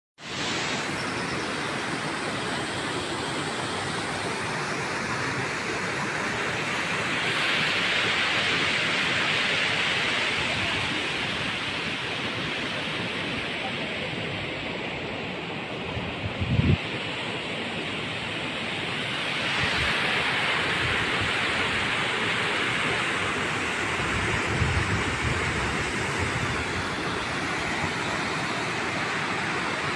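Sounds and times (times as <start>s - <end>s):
water rushing over rocks: 0.2s - 29.9s.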